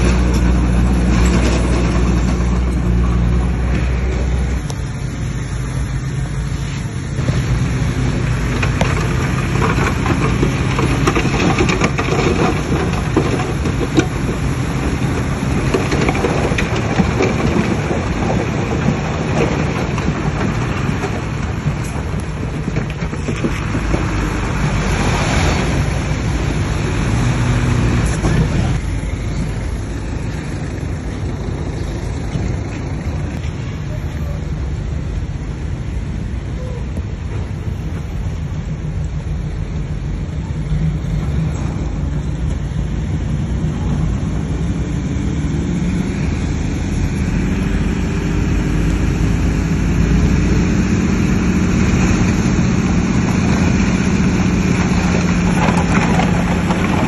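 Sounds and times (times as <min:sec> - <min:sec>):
bulldozer engine under load: 0:00.0 - 0:57.0.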